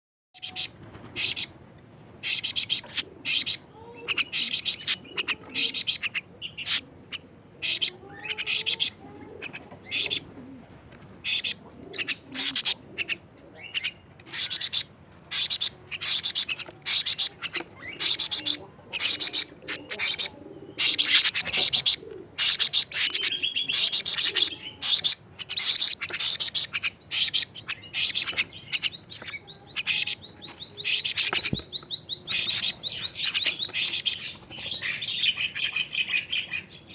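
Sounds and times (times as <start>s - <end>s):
bird chirping high-pitched: 0.4s - 1.6s, 2.2s - 10.3s, 11.3s - 36.9s.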